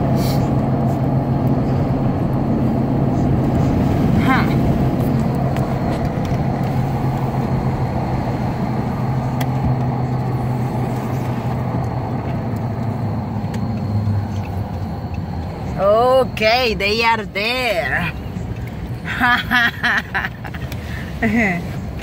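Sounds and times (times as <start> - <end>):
car engine and road hum: 0.0 - 22.0.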